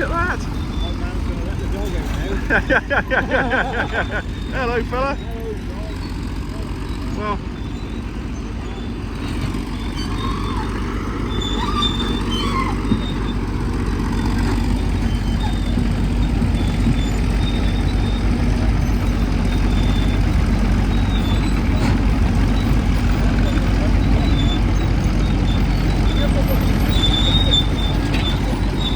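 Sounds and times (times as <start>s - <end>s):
heavy machine engine rumbling: 0.0s - 28.9s.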